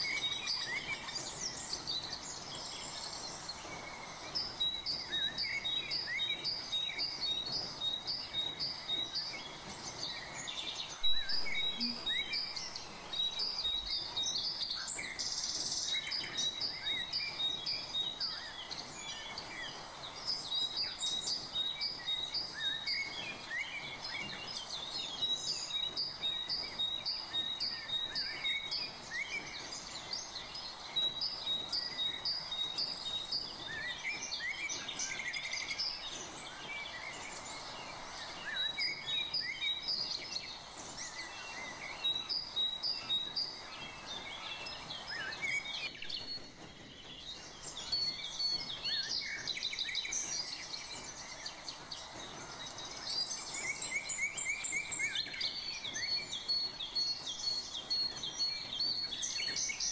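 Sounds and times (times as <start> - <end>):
birds chirping: 0.0 - 59.9
steady background hiss: 0.0 - 59.9.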